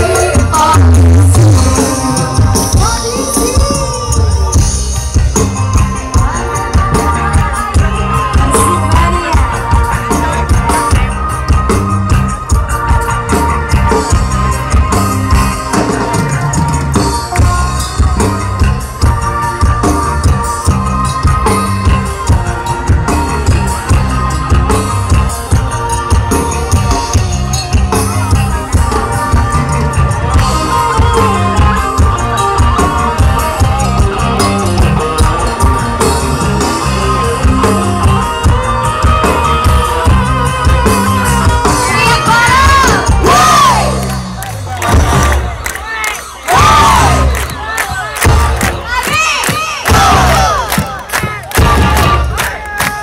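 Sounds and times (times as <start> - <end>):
drum and percussion beat: 0.0 - 53.0
live band music loudly amplified: 0.0 - 53.0.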